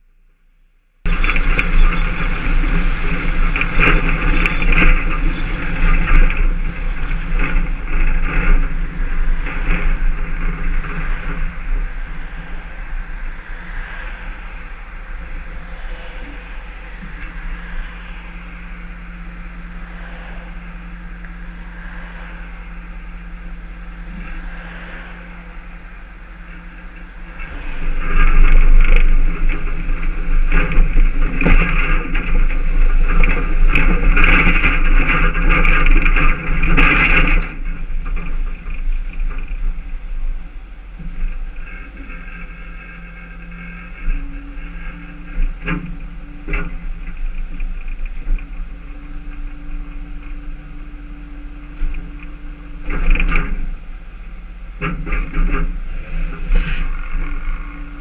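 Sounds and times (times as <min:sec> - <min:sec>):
road noise: 0:00.0 - 0:58.0
tow truck engine: 0:00.0 - 0:58.0.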